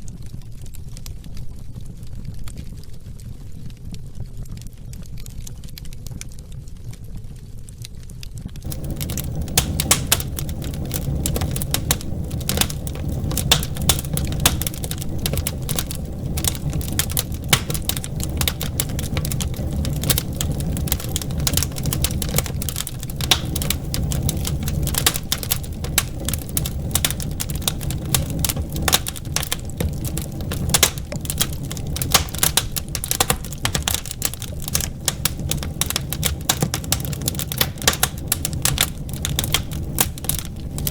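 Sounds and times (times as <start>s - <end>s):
low fire rumble: 0.0s - 40.9s
wood fire crackling and popping: 0.1s - 40.9s.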